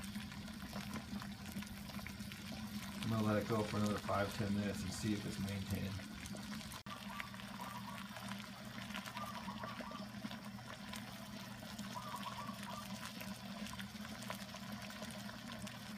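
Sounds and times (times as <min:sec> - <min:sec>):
water boiling with bubbling: 0:00.0 - 0:15.9.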